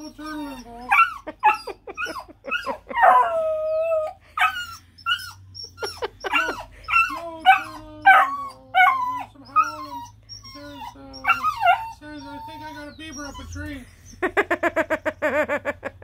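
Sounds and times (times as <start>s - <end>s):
puppy howling and yelping: 0.0s - 14.9s.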